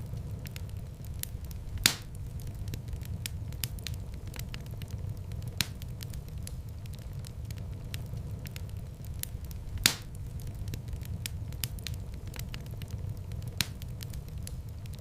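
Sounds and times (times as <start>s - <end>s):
loud fire pops: 0.0s - 15.0s
low rumble of flames: 0.0s - 15.0s
wood fire crackling: 0.0s - 15.0s.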